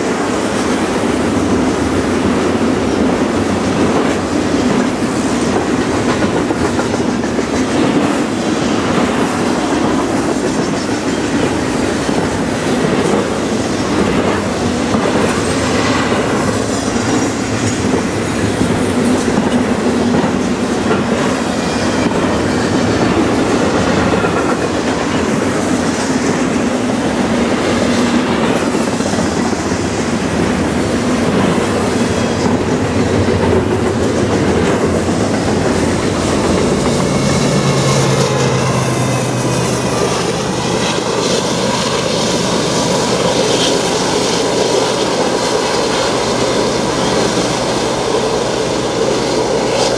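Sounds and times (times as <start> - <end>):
freight train wheels rumbling on rail: 0.0 - 49.9.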